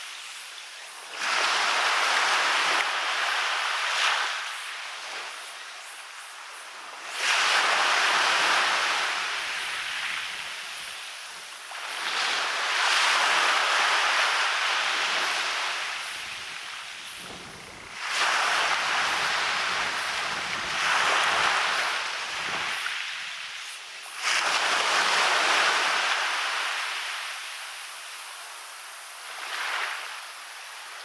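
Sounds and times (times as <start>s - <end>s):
waves washing onto beach: 0.9s - 31.0s.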